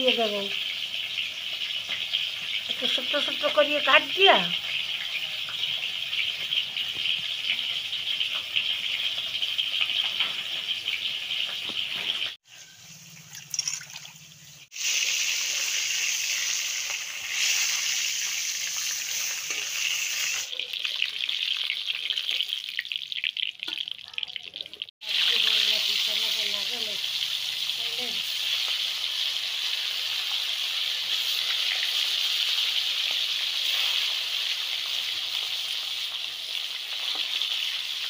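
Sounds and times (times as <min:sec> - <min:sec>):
fish sizzling in hot oil: 0:00.0 - 0:38.0.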